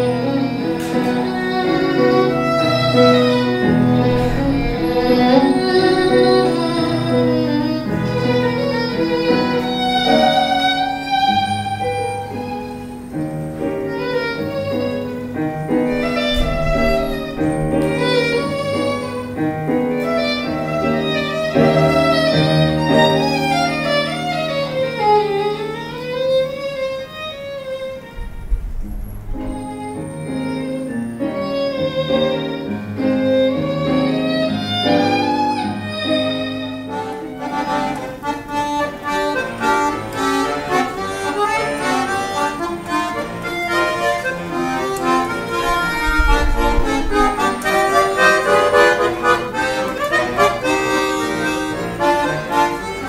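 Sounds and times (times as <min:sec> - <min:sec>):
piano chords: 0:00.0 - 0:53.0
violin melody with vibrato: 0:00.0 - 0:53.0.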